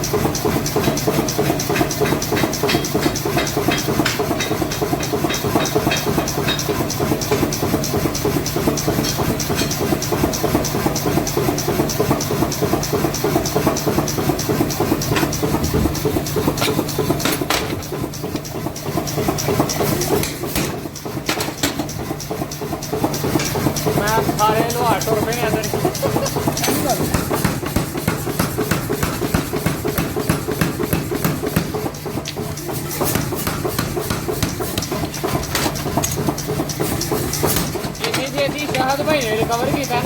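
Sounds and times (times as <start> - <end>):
heavy machinery knocking: 0.0 - 40.0.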